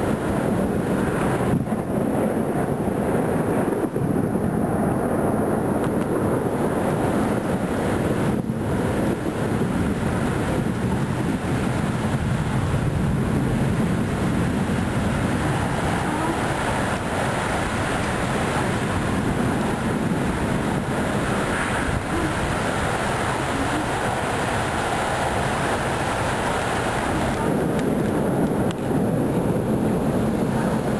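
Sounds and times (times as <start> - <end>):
thunderstorm rumbling: 0.0 - 30.9.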